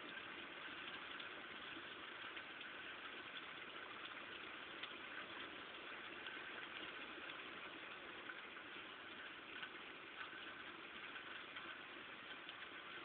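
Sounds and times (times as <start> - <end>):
raindrop ticks: 0.0 - 13.0
steady rain: 0.0 - 13.0.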